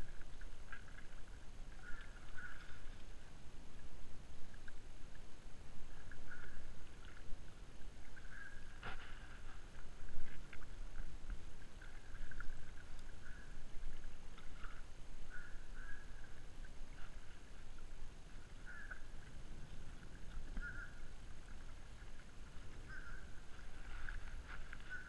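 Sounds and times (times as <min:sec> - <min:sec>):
kayak paddle splashing: 0:00.0 - 0:25.0
wind rumble on microphone: 0:00.0 - 0:25.0.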